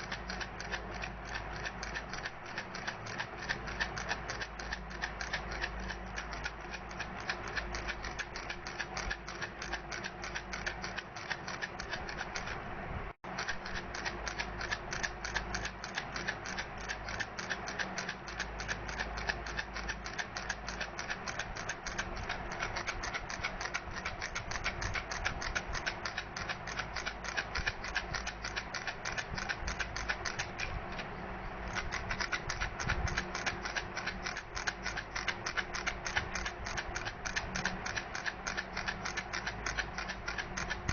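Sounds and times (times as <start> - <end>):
baby rattle clicking: 0.0 - 12.6, 13.3 - 31.0, 31.6 - 40.9.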